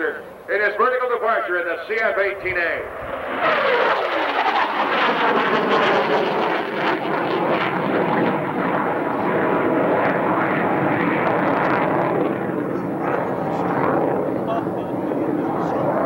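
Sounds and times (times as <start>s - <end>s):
loud steady jet noise: 0.0s - 16.0s.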